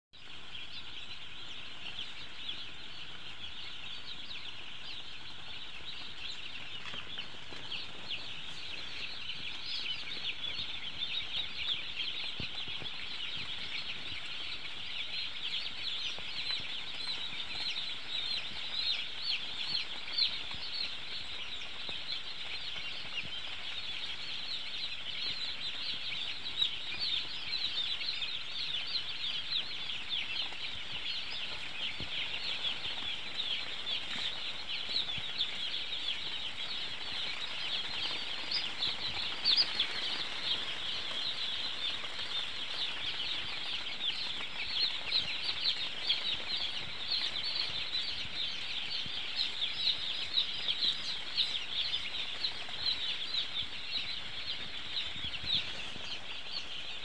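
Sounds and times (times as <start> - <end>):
chicks peeping: 0.1 - 57.0.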